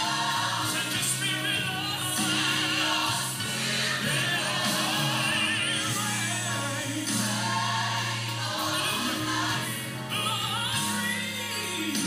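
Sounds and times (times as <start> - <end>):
gospel singing: 0.0 - 12.0.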